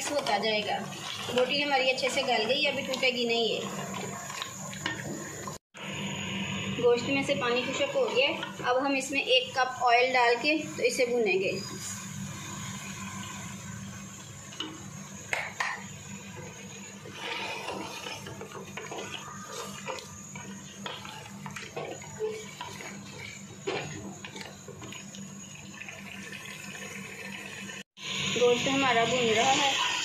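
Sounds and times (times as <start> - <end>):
meat sizzling in oil: 0.0 - 30.0.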